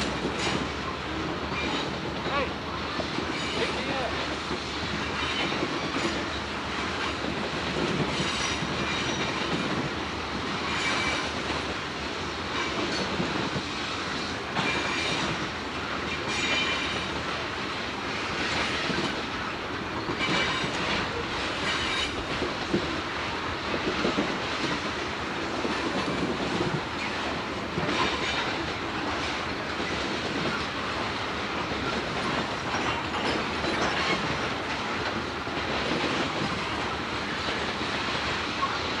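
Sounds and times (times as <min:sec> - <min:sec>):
train wheels clacking over rail joints: 0:00.0 - 0:39.0.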